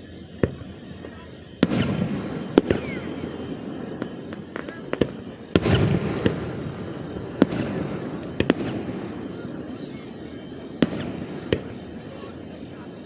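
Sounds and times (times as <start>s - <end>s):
fireworks booming: 0.0s - 13.0s
fireworks cracks and pops: 0.0s - 13.0s.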